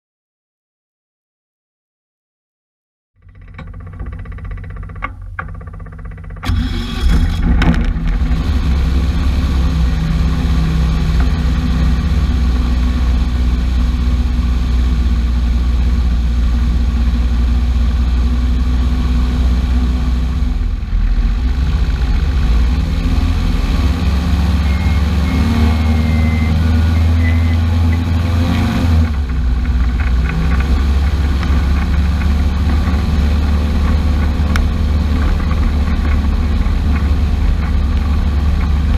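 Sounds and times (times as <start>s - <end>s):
loud low engine running: 3.2s - 38.9s.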